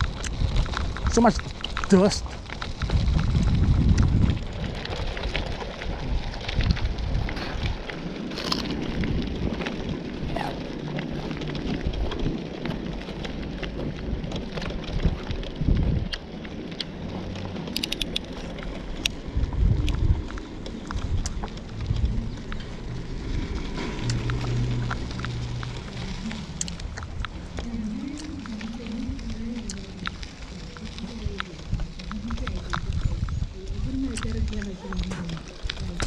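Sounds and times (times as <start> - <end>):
bicycle tyres crunching over grit: 0.0 - 36.0
wind buffeting microphone: 0.0 - 36.0.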